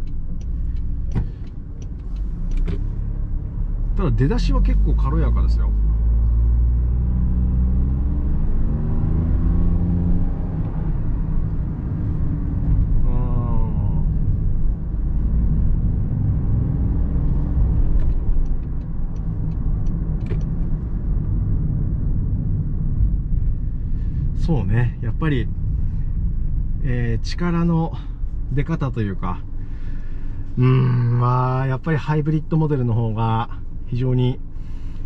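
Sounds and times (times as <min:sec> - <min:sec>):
car engine accelerating: 0:00.0 - 0:29.6
road noise inside car: 0:00.0 - 0:35.0.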